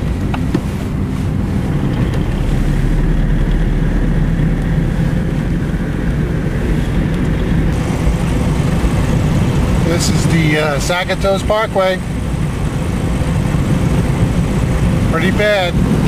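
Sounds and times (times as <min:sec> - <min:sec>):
car engine drone from inside: 0:00.0 - 0:16.0
road and tyre noise: 0:00.0 - 0:16.0.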